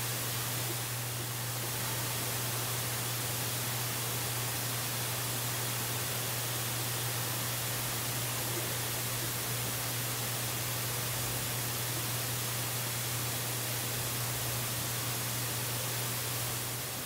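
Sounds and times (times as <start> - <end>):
microphone hiss: 0.0 - 17.0.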